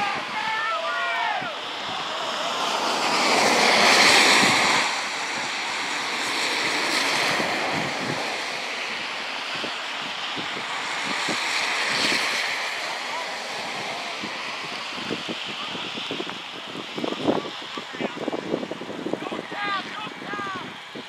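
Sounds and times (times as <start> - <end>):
gusting wind: 0.0 - 21.0.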